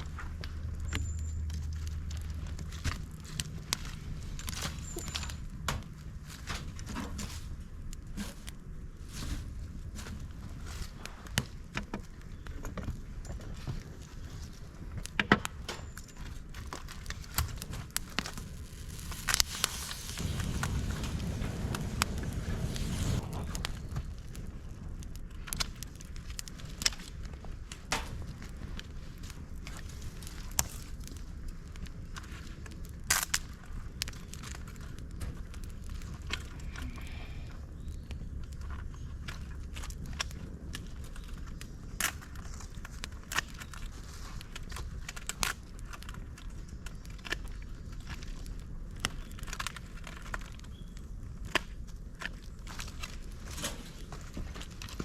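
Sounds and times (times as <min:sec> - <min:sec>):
fire crackling and popping: 0:00.0 - 0:55.0
low fire rumble: 0:00.0 - 0:55.0.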